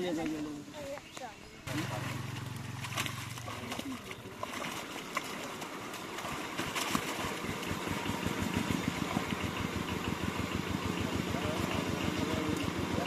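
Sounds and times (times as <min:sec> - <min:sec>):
small engine running: 0:01.7 - 0:13.0.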